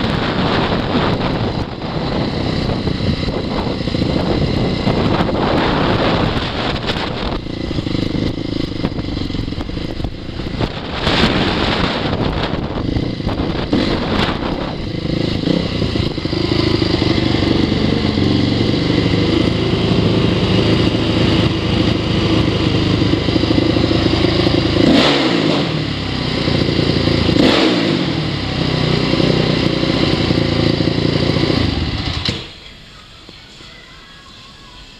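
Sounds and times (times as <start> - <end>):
wind noise on microphone: 0.0 - 32.2
motorcycle engine running: 0.0 - 32.6.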